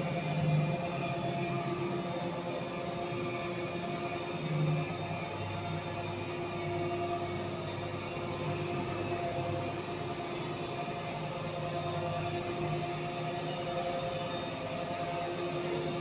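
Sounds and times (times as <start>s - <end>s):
lift mechanical hum: 0.0s - 16.0s.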